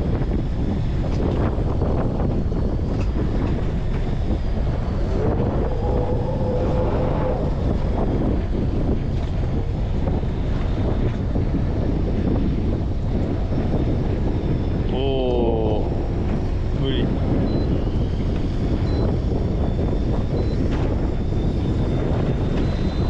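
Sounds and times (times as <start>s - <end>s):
faint steady whine: 0.0s - 23.0s
fishing boat engine rumble: 0.0s - 23.0s
wind buffeting microphone: 0.0s - 23.0s.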